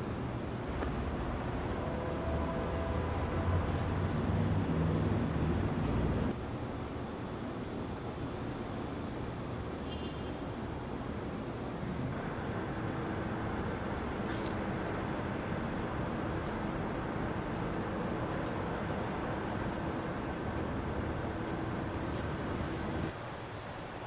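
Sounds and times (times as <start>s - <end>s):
background rumble and hiss: 3.8s - 24.0s.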